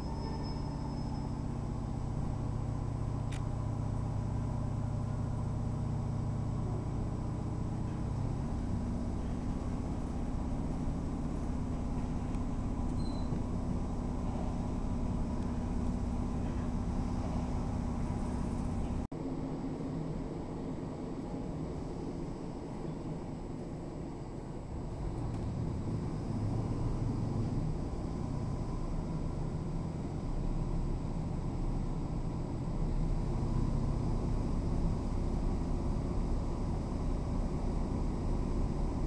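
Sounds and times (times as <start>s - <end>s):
train engine drone: 0.0s - 39.0s
train running rumble: 0.0s - 39.0s.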